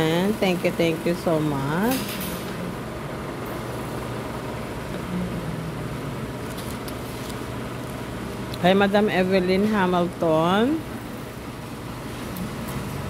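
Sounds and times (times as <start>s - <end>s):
restaurant hum and murmur: 0.0s - 13.0s.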